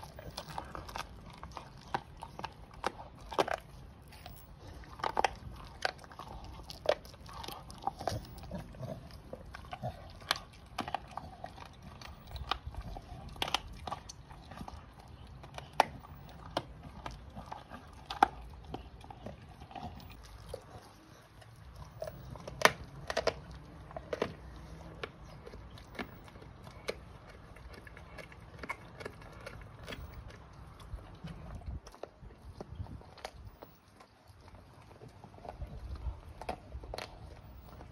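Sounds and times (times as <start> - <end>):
dog crunching bone: 0.0 - 37.9.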